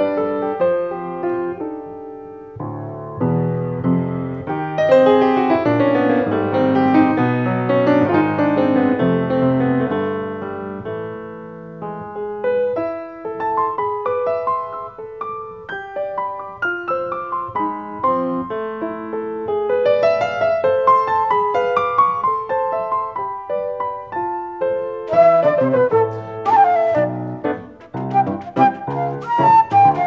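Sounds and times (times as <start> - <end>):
jazz piano: 0.0 - 30.0.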